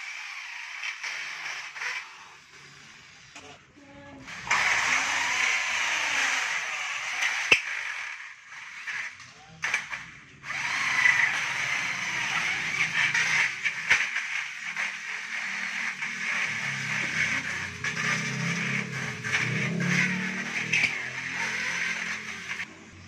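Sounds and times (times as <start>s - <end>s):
electric drill cutting metal: 0.0s - 3.4s, 4.2s - 22.7s.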